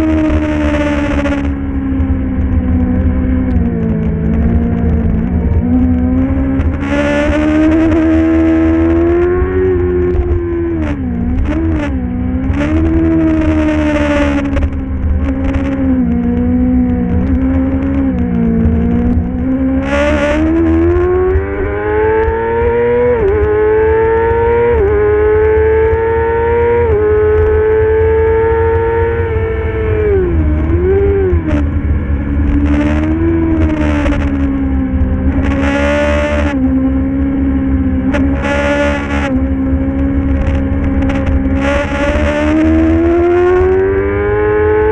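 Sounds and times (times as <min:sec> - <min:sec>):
racing motorcycle engine accelerating: 0:00.0 - 0:44.9
wind rumble: 0:00.0 - 0:44.9.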